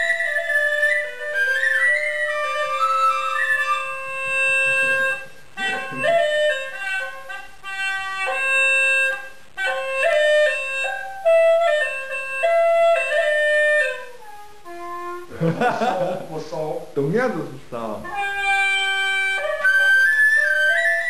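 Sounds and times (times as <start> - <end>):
gourd flute melody over drone: 0.0 - 16.1, 18.0 - 21.0.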